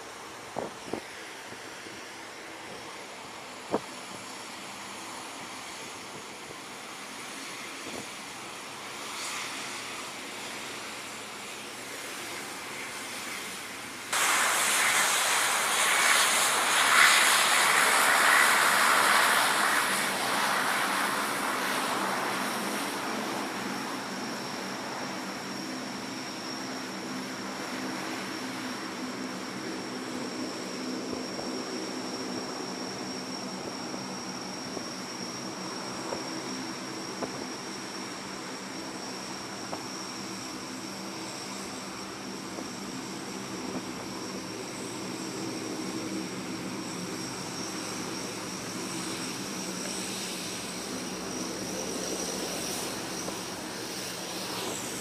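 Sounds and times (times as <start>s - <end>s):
high turbine whine: 0.0s - 55.0s
turboprop aircraft taxiing: 0.0s - 55.0s.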